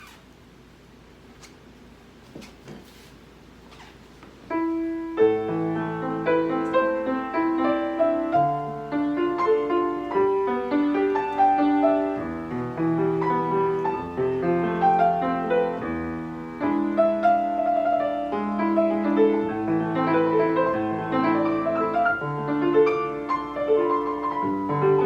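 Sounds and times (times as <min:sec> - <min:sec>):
piano piece: 0:04.5 - 0:25.0.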